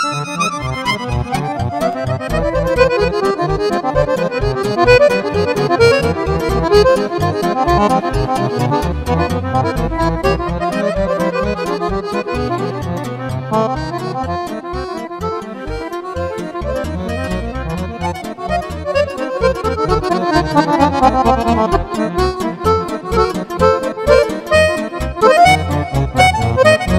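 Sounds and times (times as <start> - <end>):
accordions playing fast runs: 0.0 - 26.9
steady bass beat: 2.1 - 14.9, 16.2 - 26.9.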